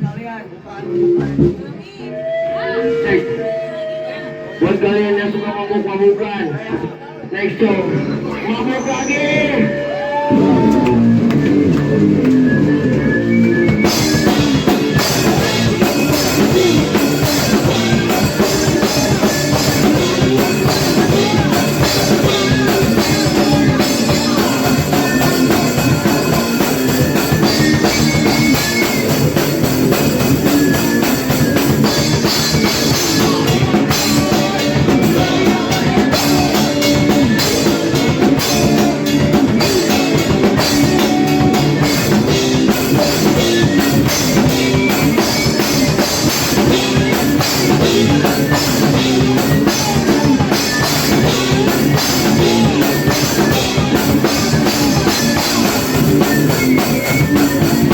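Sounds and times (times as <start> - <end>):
bass guitar: 0.7 - 5.0, 7.9 - 57.9
distorted electric guitar: 7.8 - 57.9
drums and cymbals crashing: 8.8 - 57.9.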